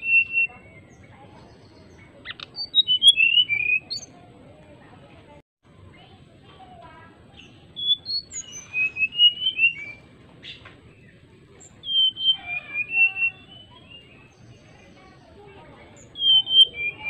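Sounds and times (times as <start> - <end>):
bird whistling song: 0.0 - 4.2, 7.4 - 17.0.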